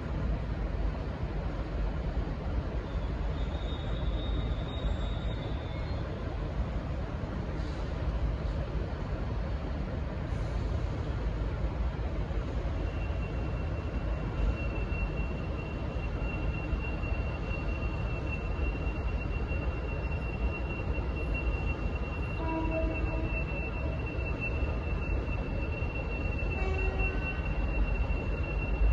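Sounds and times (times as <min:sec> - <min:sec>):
train rumbling: 0:00.0 - 0:28.9.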